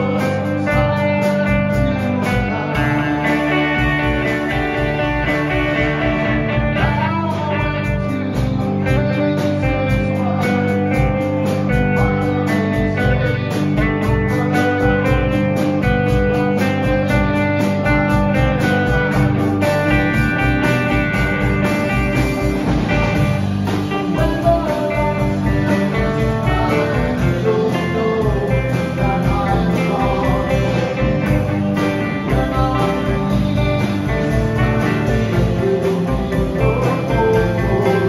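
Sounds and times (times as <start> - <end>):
acoustic guitars: 0.0 - 38.0
drum kit: 0.0 - 38.0.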